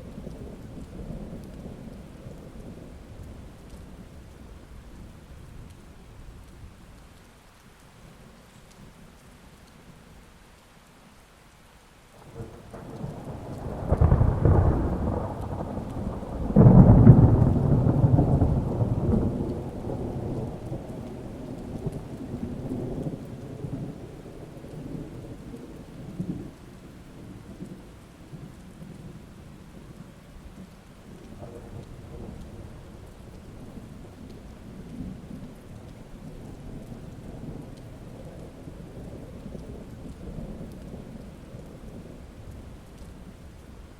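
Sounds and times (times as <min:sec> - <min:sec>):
thunder rumbling: 0:00.0 - 0:06.8, 0:12.2 - 0:43.9
steady rain: 0:00.0 - 0:43.9.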